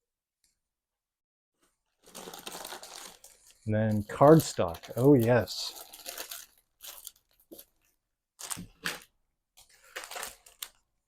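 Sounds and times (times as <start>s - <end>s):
paper packaging crinkling: 1.6s - 11.0s.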